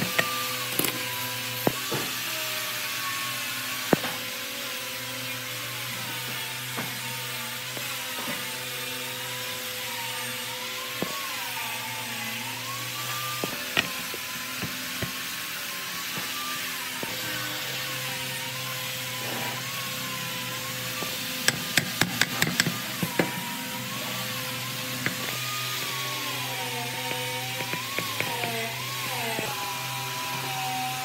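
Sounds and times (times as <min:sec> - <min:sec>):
small power tool motor running: 0:00.0 - 0:31.0.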